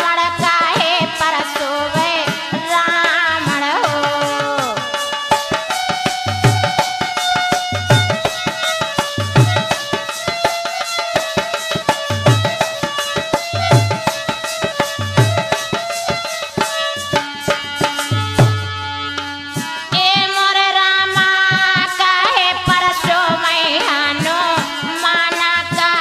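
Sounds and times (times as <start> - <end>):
woman singing: 0.0 - 17.9, 19.5 - 26.0.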